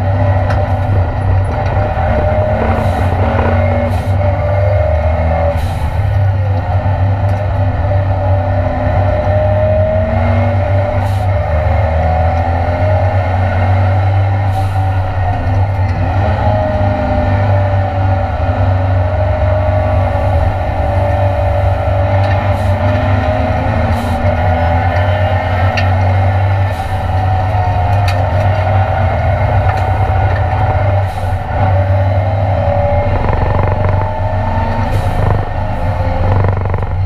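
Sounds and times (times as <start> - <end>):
race car engine running hard: 0.0 - 37.0.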